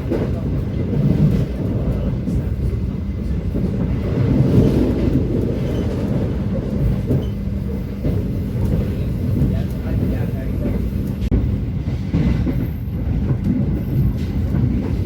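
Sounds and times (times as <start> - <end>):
rail joint ticks: 0.0 - 15.0
train wheels rumbling on rails: 0.0 - 15.0.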